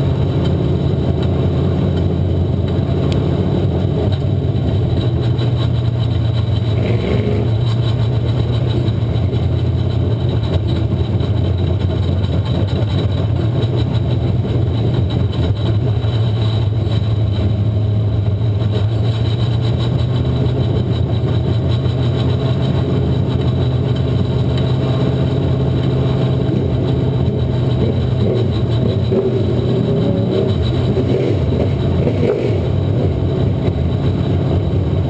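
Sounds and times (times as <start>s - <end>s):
race car engine running steadily: 0.0s - 35.0s.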